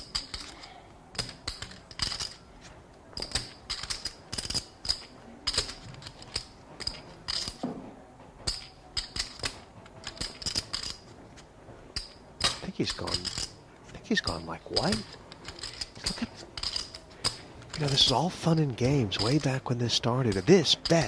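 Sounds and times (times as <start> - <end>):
poker chips clicking: 0.0 - 2.5, 3.1 - 7.6, 8.4 - 11.2, 12.0 - 21.0.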